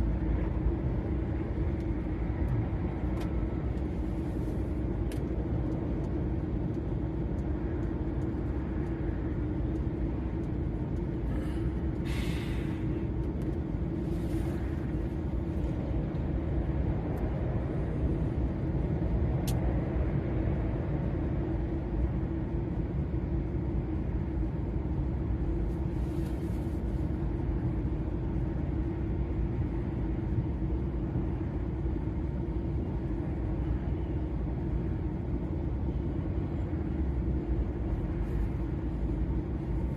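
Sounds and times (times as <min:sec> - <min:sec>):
lorry engine and road drone: 0:00.0 - 0:39.9.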